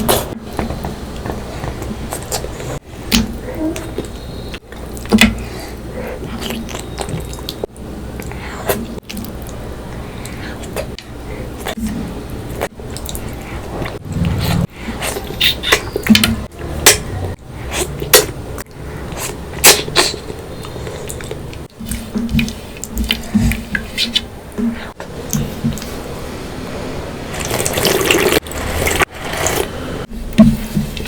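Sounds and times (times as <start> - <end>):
wet chewing: 0.0 - 26.1, 27.3 - 29.9.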